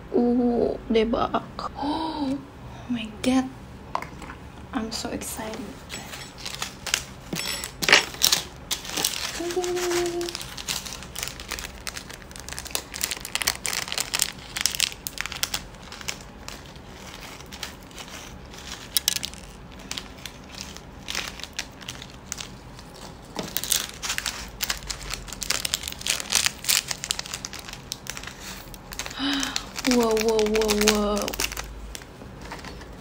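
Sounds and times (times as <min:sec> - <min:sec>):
plastic sachets crinkling: 0:06.0 - 0:33.0.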